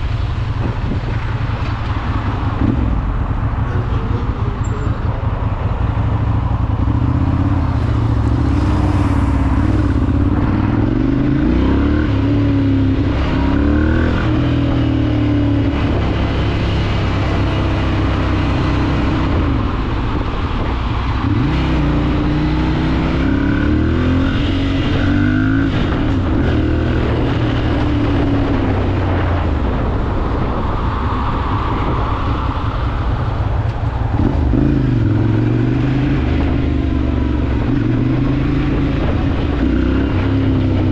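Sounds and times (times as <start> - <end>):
motorcycle engine accelerating: 0.6 - 40.9.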